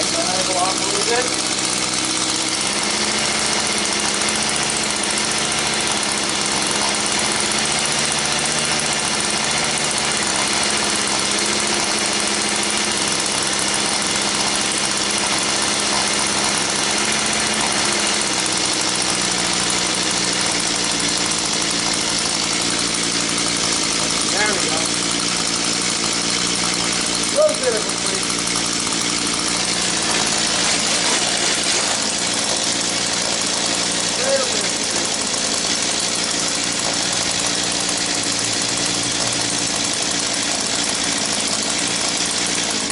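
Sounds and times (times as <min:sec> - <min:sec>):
small gasoline engine running: 0:00.0 - 0:42.9.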